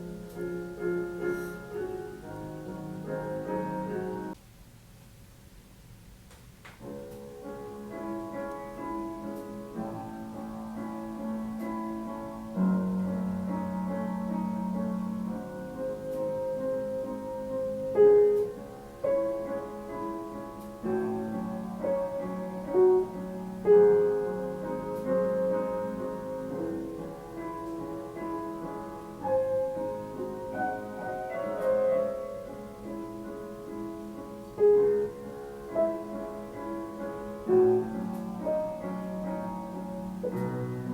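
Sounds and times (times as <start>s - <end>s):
slow piano music: 0.0s - 4.4s, 6.8s - 40.9s.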